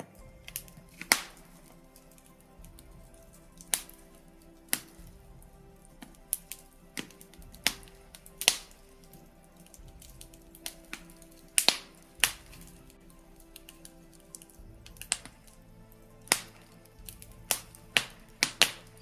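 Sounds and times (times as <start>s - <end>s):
faint music: 0.0s - 19.0s
wood fire crackling: 0.0s - 19.0s.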